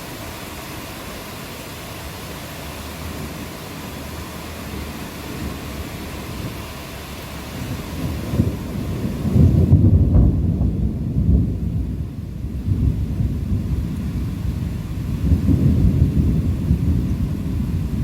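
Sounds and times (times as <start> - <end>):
faint rain: 0.0 - 18.0
thunder rumbling: 2.7 - 18.0.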